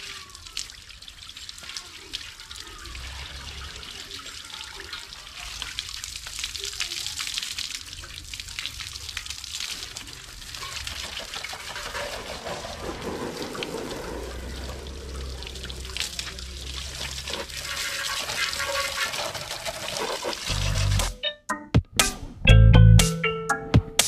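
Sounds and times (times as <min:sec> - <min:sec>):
water running and splashing: 0:00.0 - 0:21.1
water spatters: 0:00.0 - 0:21.1.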